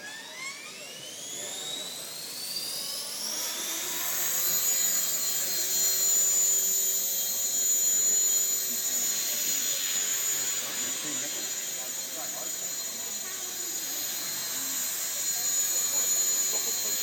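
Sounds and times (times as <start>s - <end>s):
electric helicopter motor whining: 0.0s - 17.0s.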